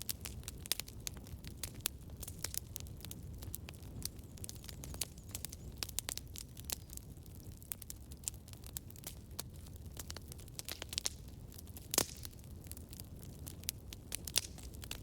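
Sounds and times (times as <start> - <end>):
campfire crackling: 0.0 - 15.0
low rumble of flames: 0.0 - 15.0.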